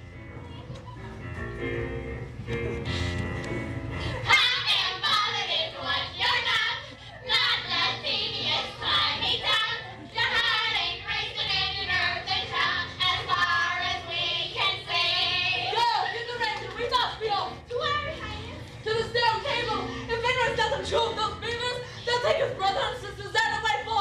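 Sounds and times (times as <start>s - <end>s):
young voices singing: 4.2s - 24.0s.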